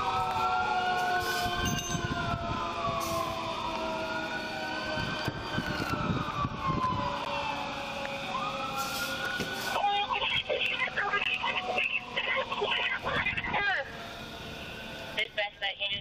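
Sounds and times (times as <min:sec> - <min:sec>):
emergency sirens wailing: 0:00.0 - 0:16.0.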